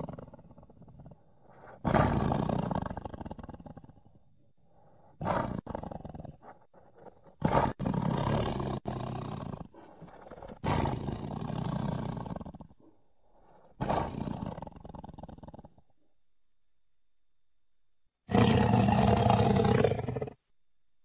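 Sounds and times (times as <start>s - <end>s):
big cat roaring: 0.0s - 4.2s, 5.2s - 15.9s, 18.3s - 20.4s.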